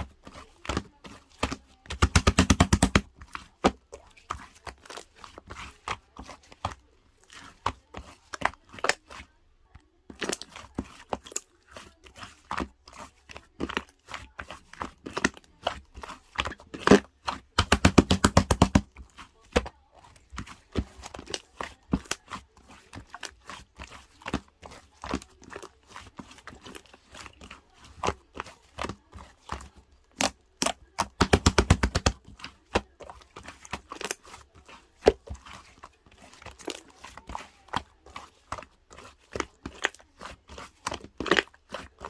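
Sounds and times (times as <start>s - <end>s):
ice cream scoop scraping: 0.0s - 42.0s.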